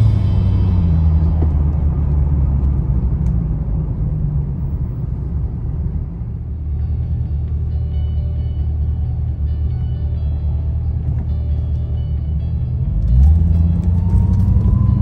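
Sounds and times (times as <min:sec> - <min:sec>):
car exhaust drone: 0:00.0 - 0:15.0.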